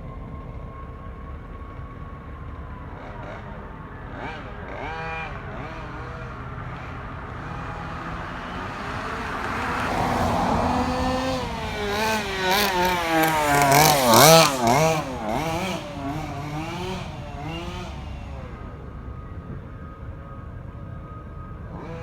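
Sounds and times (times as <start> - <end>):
two-stroke engine revving: 2.5 - 20.0, 21.1 - 22.0.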